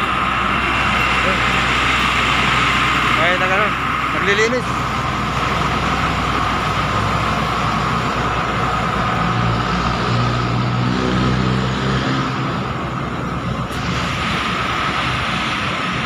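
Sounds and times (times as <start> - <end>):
roadside traffic noise: 0.0 - 16.0
vehicle engine passing: 0.0 - 16.0.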